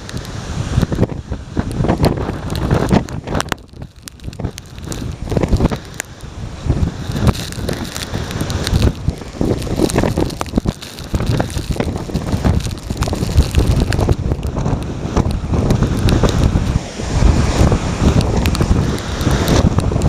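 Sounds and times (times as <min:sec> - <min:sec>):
heavy surf breaking: 0:00.0 - 0:20.0
strong wind buffeting microphone: 0:00.0 - 0:20.0.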